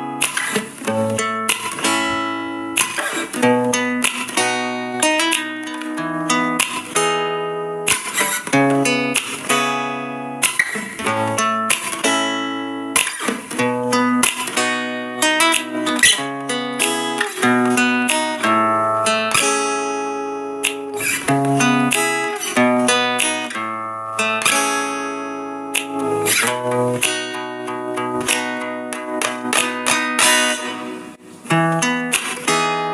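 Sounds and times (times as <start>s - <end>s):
acoustic guitar music: 0.0s - 32.9s.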